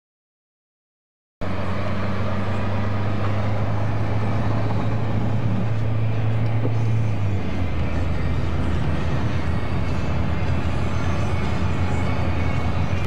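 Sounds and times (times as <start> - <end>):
car engine drone: 1.4 - 13.0
road noise: 1.4 - 13.0.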